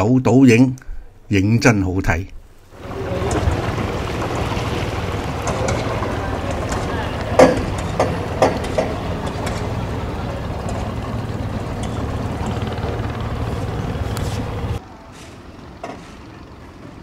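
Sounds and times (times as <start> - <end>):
motorboat engine droning: 2.4 - 17.0.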